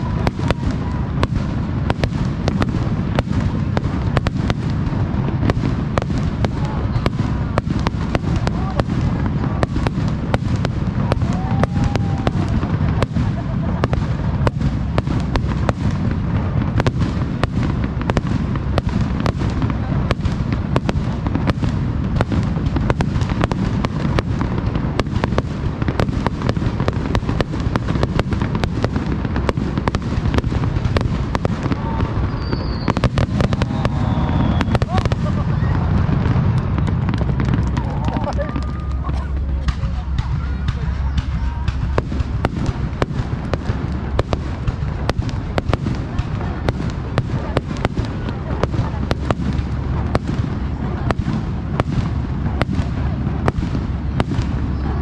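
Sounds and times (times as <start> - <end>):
fireworks bangs and crackles: 0.0 - 55.0
low rumble: 0.0 - 55.0.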